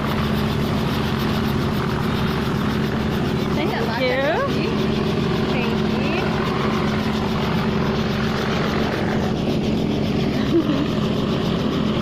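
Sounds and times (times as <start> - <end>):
helicopter engine and rotor hum: 0.0 - 12.0.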